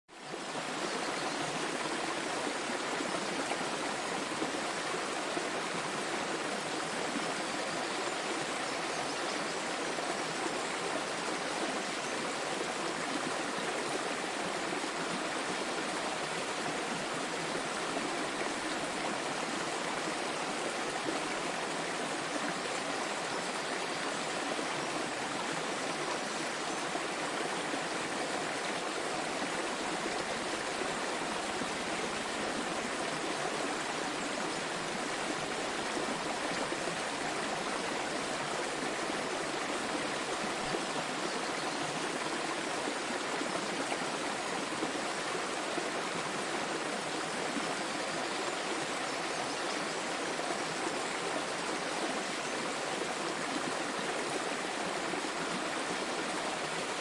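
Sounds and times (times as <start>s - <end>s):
small waterfall rushing: 0.1s - 57.0s.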